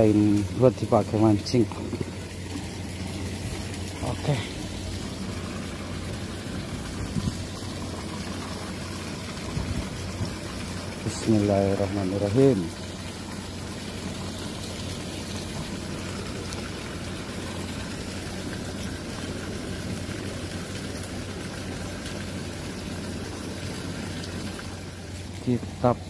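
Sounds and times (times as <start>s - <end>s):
low steady hum: 0.0s - 26.0s
water splashing from outlet: 0.0s - 26.0s.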